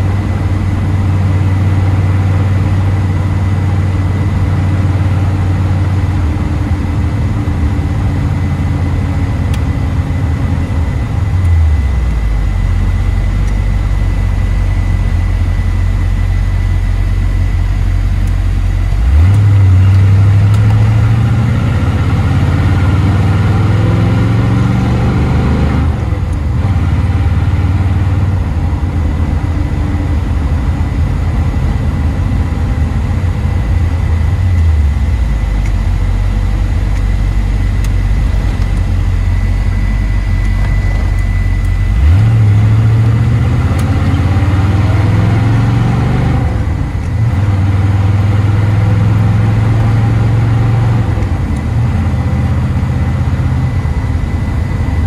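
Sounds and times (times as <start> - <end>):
car engine accelerating and cruising: 0.0 - 55.0.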